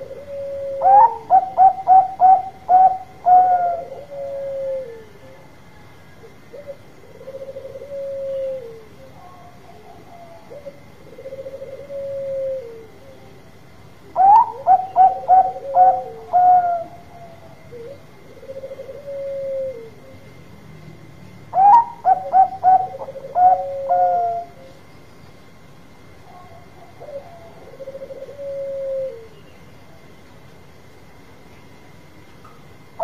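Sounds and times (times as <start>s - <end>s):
soft rolling dove coos: 0.0s - 20.5s, 21.5s - 24.9s, 26.1s - 30.0s.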